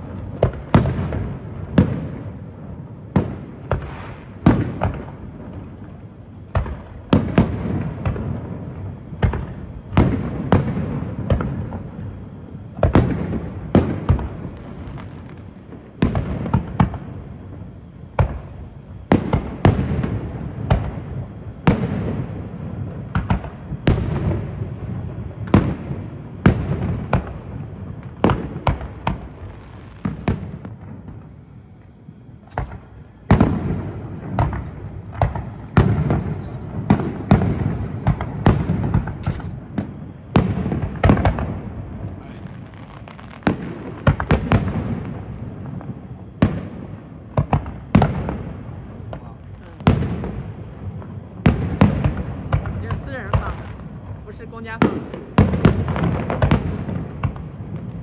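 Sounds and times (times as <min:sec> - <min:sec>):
firework shells booming: 0:00.0 - 0:31.4, 0:32.2 - 0:58.0.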